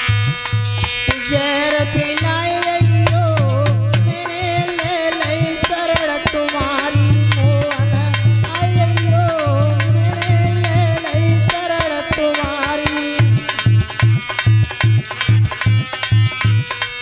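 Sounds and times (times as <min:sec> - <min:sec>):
hand drum beats: 0:00.0 - 0:17.0
wavering held melody: 0:00.0 - 0:17.0.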